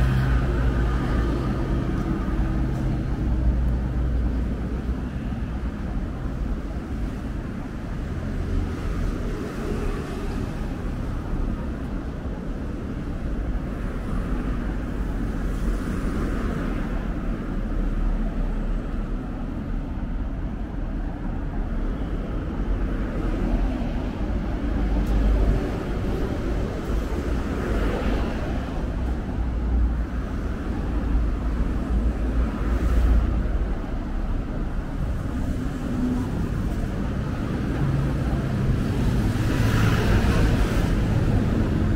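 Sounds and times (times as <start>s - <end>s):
steady low traffic rumble: 0.0s - 41.9s
vehicles passing: 0.0s - 41.9s.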